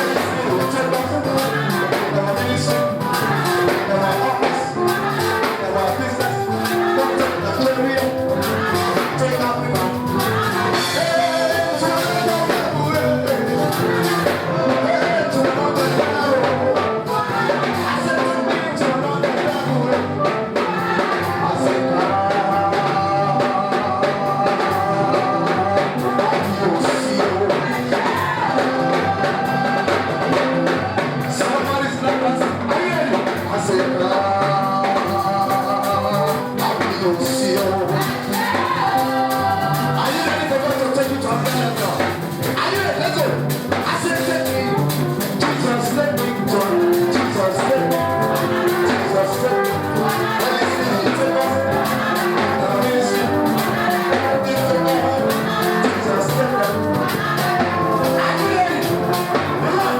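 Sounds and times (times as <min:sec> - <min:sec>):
church band with drums: 0:00.0 - 0:59.9
people singing: 0:00.0 - 0:59.9.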